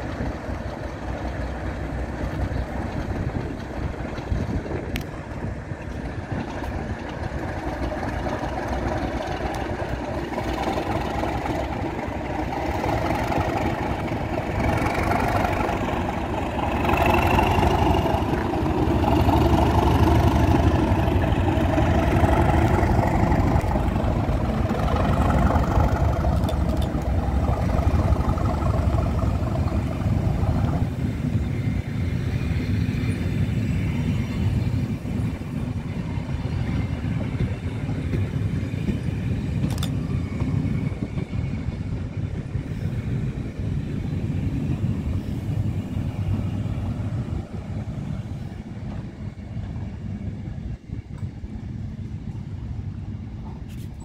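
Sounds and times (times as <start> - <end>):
diesel locomotive engine grumbling: 0.0 - 54.0
train coaches rolling on track: 0.0 - 54.0.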